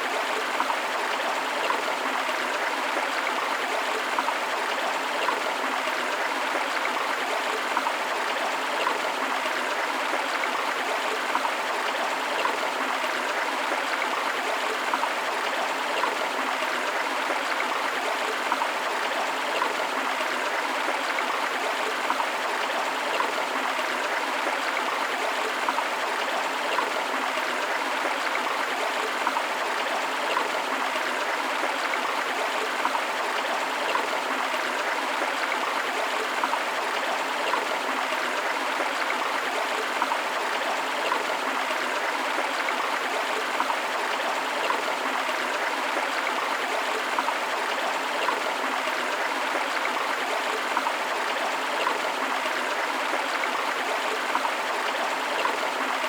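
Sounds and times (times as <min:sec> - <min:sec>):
waterfall: 0:00.0 - 0:56.0.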